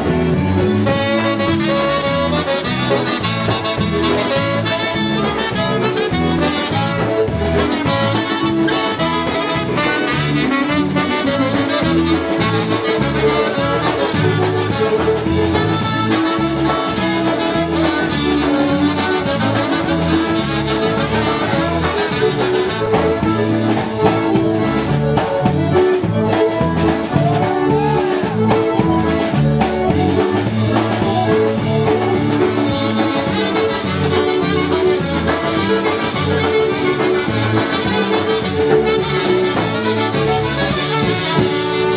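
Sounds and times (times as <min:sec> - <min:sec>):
accordion: 0:00.0 - 0:41.9
polka band playing: 0:00.0 - 0:41.9.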